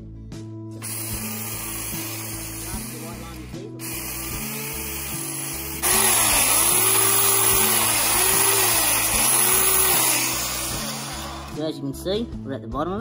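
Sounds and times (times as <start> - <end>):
belt sander grinding hoof: 0.8 - 11.6.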